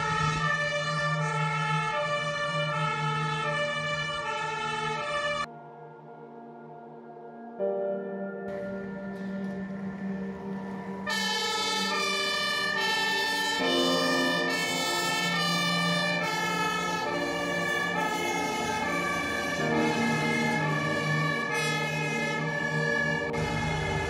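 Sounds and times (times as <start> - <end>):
two-tone siren: 0.0 - 6.0, 8.4 - 24.0
background music with low tone: 0.0 - 24.0.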